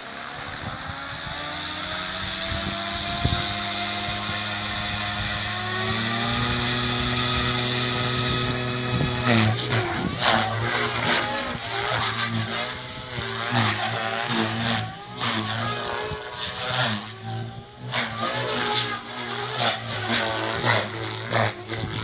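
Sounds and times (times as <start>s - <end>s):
electric motor whine: 0.0s - 22.0s
rotor whooshing: 0.0s - 22.0s.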